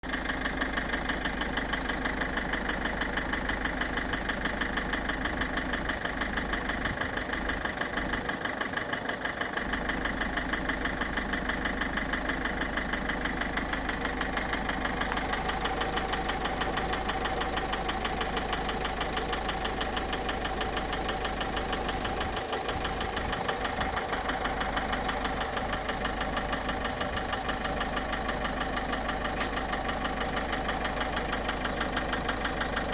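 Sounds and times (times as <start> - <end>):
car engine idling: 0.0 - 32.9
fast engine ticking: 0.0 - 32.9.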